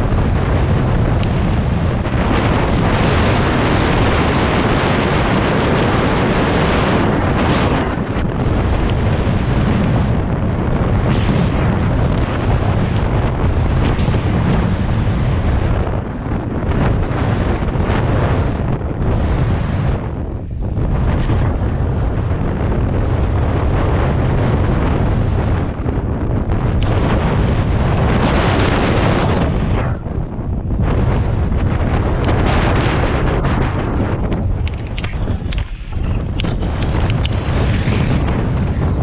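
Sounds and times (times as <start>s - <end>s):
bike tyres on dirt trail: 0.0s - 39.0s
wind buffeting microphone: 0.0s - 39.0s.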